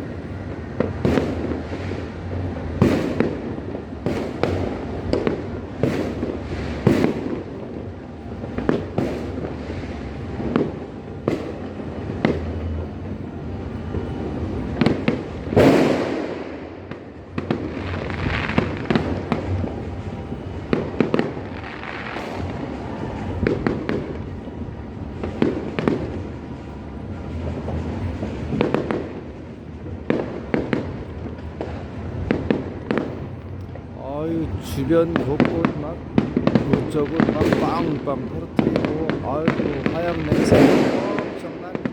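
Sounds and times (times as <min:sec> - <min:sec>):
fireworks and firecrackers exploding: 0:00.0 - 0:41.9.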